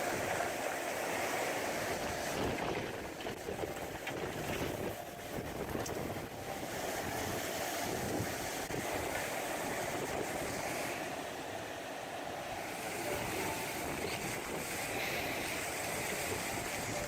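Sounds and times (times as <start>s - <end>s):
wind buffeting microphone: 0.0s - 11.2s, 12.6s - 17.0s.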